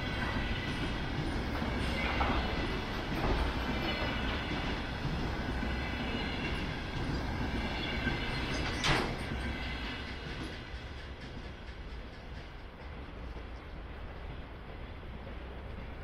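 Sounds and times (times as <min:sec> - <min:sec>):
train wagons rumbling on rails: 0:00.0 - 0:16.0.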